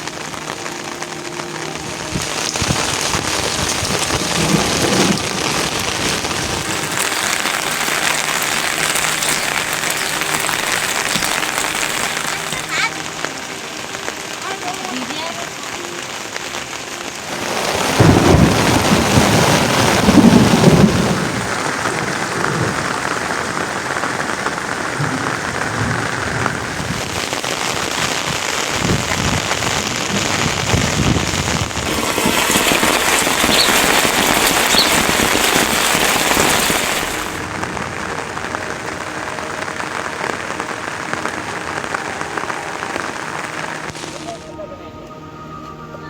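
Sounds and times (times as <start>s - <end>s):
heavy rain falling: 0.0s - 44.5s.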